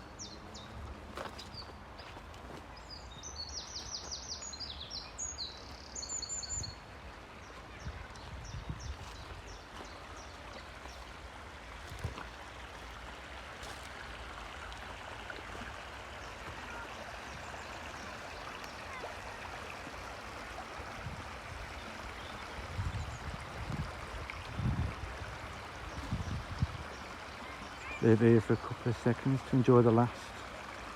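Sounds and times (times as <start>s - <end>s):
stream flowing over stones: 0.0s - 30.9s.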